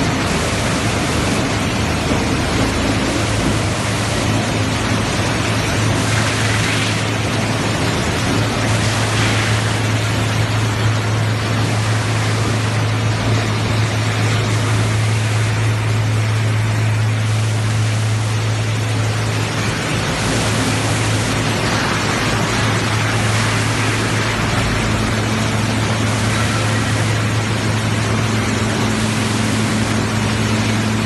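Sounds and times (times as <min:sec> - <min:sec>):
machinery noise with low hum: 0:00.0 - 0:31.0.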